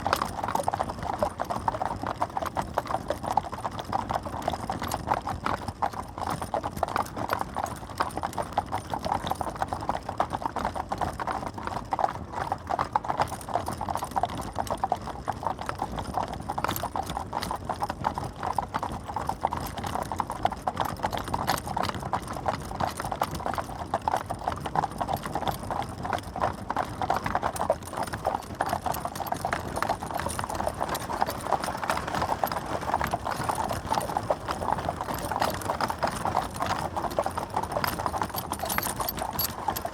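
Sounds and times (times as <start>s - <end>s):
horse hooves clip-clopping: 0.0s - 39.9s.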